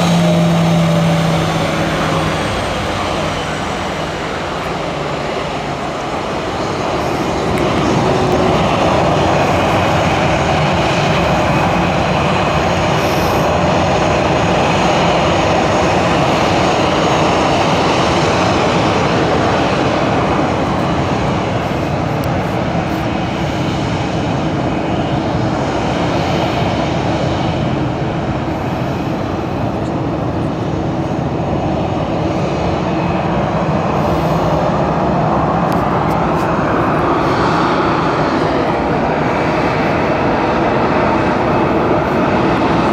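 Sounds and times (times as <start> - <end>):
jet engines roaring with whine: 0.0 - 42.9.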